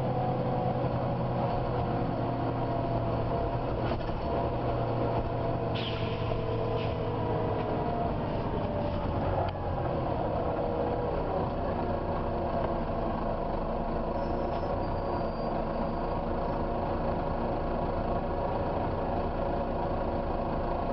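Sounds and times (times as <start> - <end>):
low engine rumble: 0.0 - 20.9.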